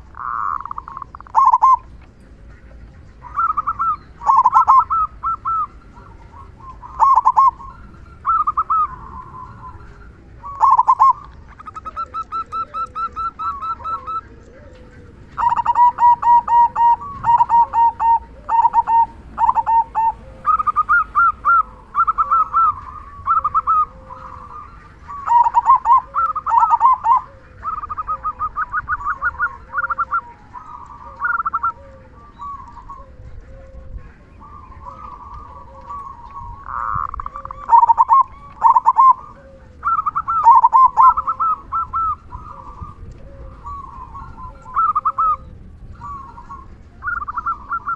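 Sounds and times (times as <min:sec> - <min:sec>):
dove cooing song: 0:00.0 - 0:47.9
faint low bird call: 0:00.0 - 0:47.9.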